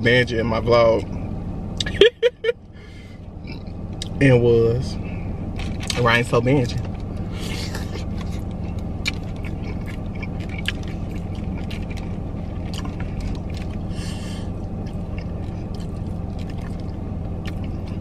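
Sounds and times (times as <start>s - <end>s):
car engine hum: 0.0s - 18.0s.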